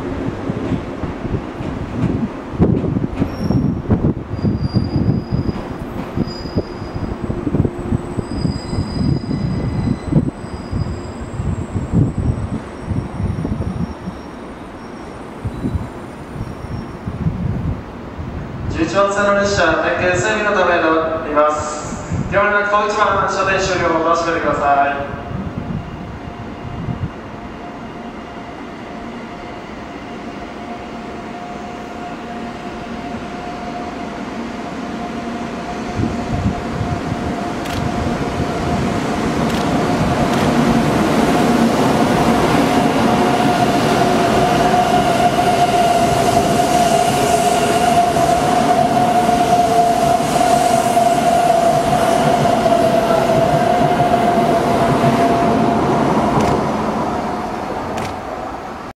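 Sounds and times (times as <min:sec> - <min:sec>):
train running past: 0:00.0 - 0:58.9.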